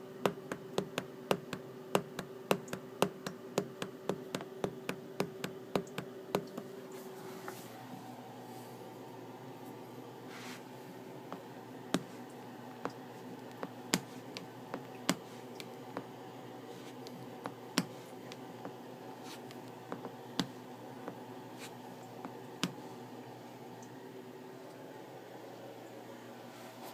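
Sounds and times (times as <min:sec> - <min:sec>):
steady background hum: 0:00.0 - 0:26.9.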